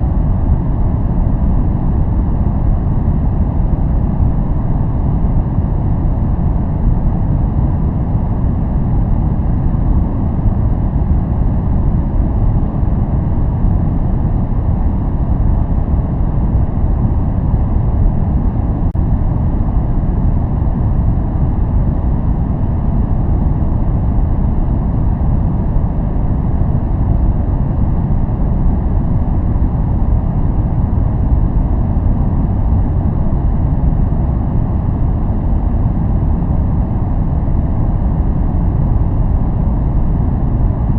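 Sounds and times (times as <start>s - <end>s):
low rumbling noise: 0.0s - 40.9s.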